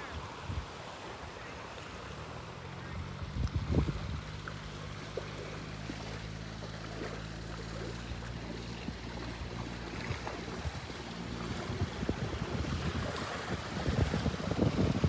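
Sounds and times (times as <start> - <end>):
motorboat engine drone: 0.0 - 15.0
small surf washing: 0.0 - 15.0
wind buffeting microphone: 2.8 - 15.0.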